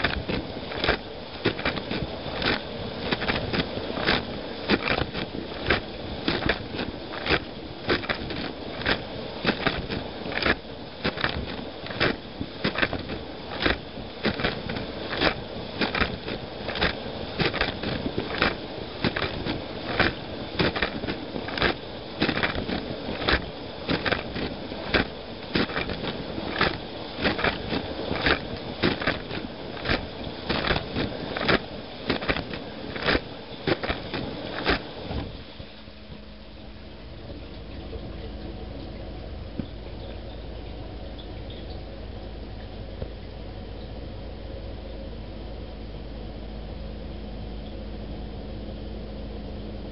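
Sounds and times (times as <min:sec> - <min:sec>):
dishwasher hum: 0:00.0 - 0:45.4.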